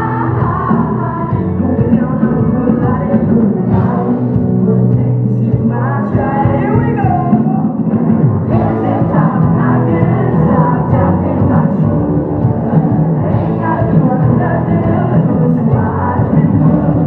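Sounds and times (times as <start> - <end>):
lead vocal singing: 0.0 - 17.0
live pop-rock band: 0.0 - 17.0.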